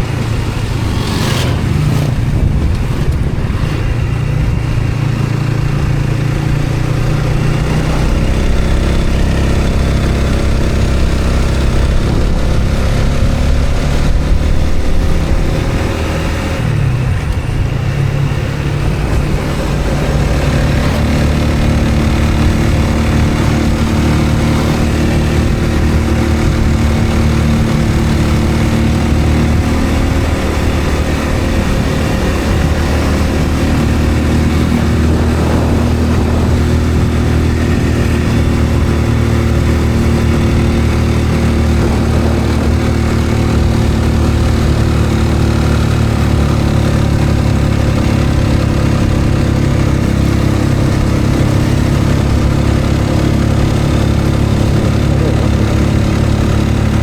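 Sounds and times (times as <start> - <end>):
road and wind noise: 0.0 - 57.0
vehicle engine running: 0.0 - 57.0.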